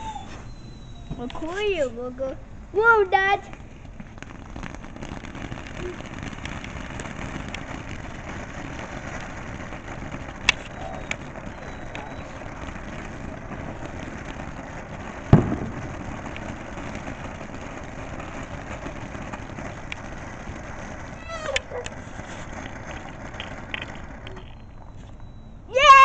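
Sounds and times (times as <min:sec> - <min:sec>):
fountain firework rushing: 0:01.1 - 0:26.0
sharp cracks: 0:03.2 - 0:26.0
loud firework bang: 0:03.6 - 0:26.0.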